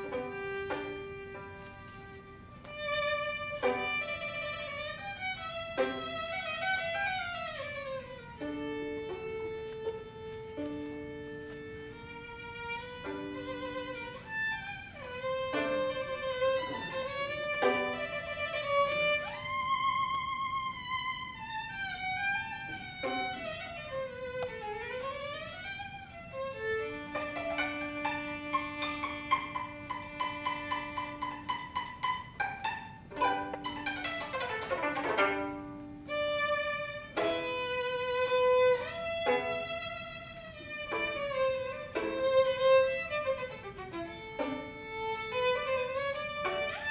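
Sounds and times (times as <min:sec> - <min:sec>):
solo violin classical piece: 0:00.0 - 0:46.9.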